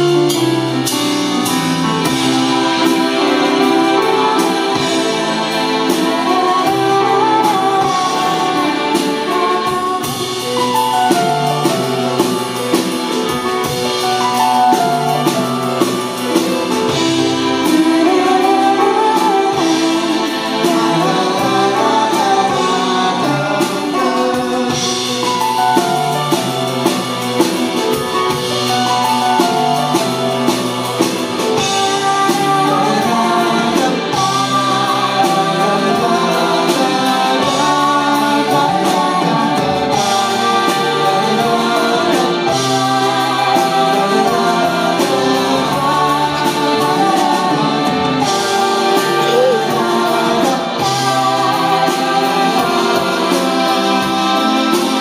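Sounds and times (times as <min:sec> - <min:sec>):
drums steady beat: 0:00.0 - 0:55.0
keyboards: 0:00.0 - 0:55.0
person singing: 0:00.0 - 0:55.0.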